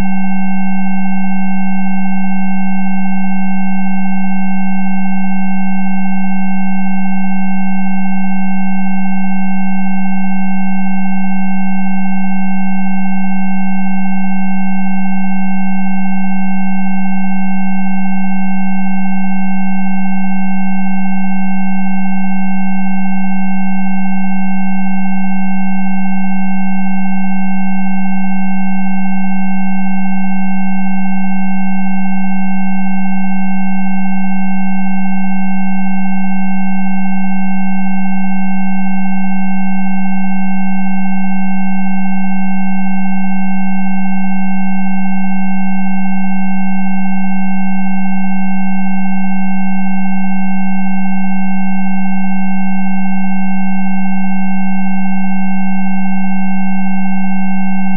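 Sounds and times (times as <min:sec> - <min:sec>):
steady synthesised sine tones: 0:00.0 - 0:57.9.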